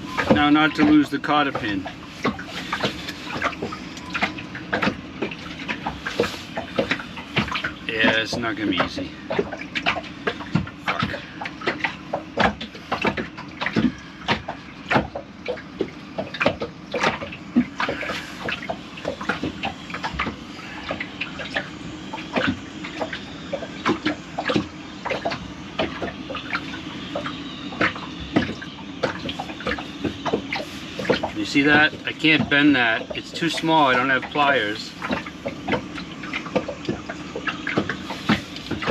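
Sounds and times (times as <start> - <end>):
steady low hum: 0.0 - 38.9
water sloshing and dripping: 0.0 - 38.9.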